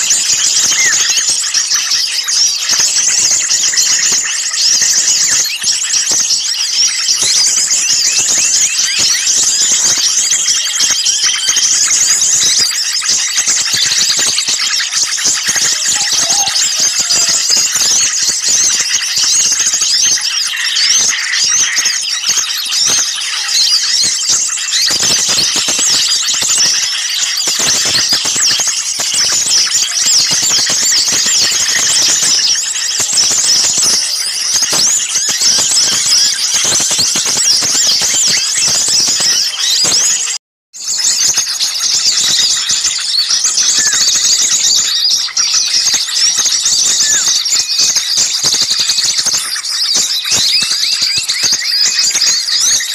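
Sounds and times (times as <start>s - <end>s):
flock of small birds chirping: 0.0s - 52.9s.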